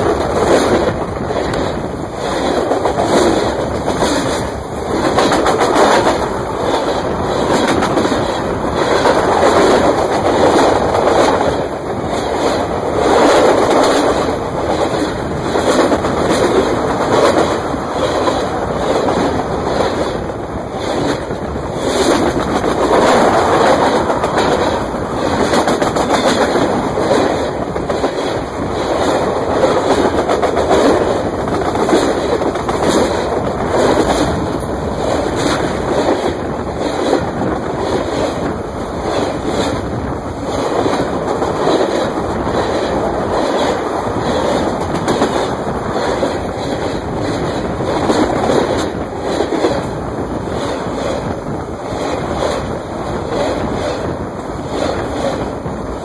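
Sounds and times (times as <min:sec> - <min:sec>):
train rumbling overhead: 0:00.0 - 0:56.0
train wheels clattering: 0:00.0 - 0:56.0.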